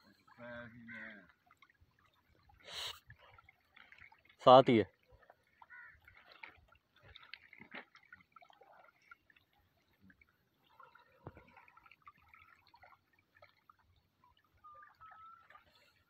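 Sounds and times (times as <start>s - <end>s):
small waves lapping on pebbles: 0.0s - 16.0s.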